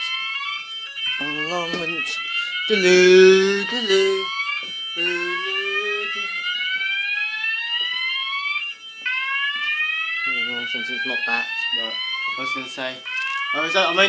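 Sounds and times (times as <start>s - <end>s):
fire alarm slow whoop: 0.0s - 14.0s
lower steady alarm tone: 0.0s - 14.0s
steady high alarm tone: 0.0s - 14.0s.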